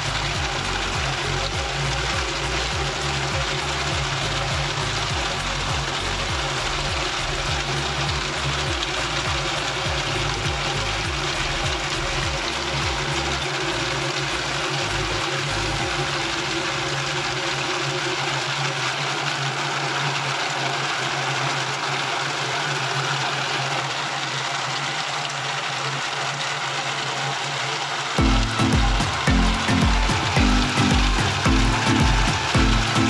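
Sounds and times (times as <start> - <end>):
drum churning walnuts: 0.0 - 33.0
machine motor humming: 0.0 - 33.0.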